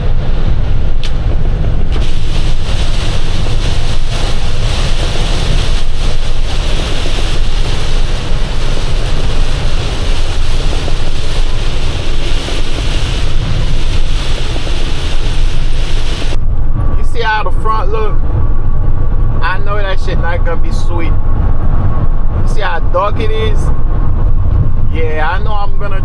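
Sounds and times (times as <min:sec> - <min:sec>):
truck engine and road rumble: 0:00.0 - 0:26.0
wind noise: 0:00.0 - 0:26.0.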